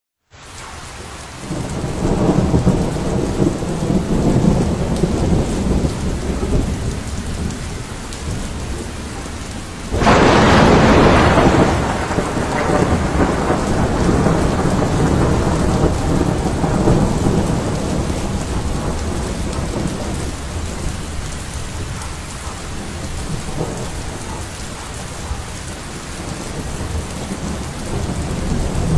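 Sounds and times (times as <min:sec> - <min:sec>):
rain: 0:00.2 - 0:28.9
sharp thunderclap: 0:01.4 - 0:07.6, 0:09.9 - 0:25.5, 0:26.2 - 0:28.9
rolling thunder: 0:01.4 - 0:28.9.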